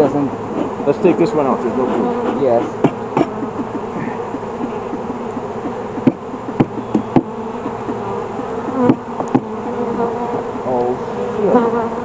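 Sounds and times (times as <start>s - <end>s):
honeybees buzzing: 0.0s - 12.0s
hive frames knocking: 0.4s - 10.6s.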